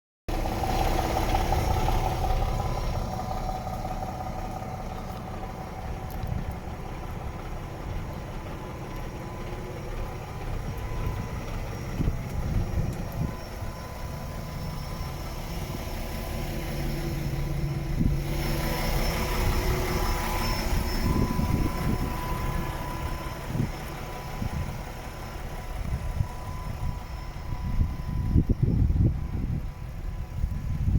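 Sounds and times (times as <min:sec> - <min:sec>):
diesel truck engine idling: 0:00.3 - 0:30.9.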